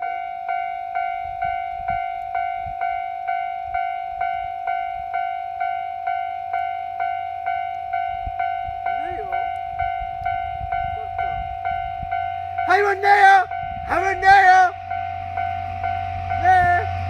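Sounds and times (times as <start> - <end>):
level-crossing warning bell ringing: 0.0 - 17.0.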